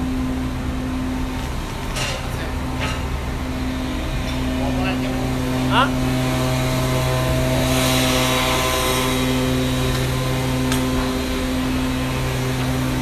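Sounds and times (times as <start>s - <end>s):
machine hum with low drone: 0.0s - 13.0s.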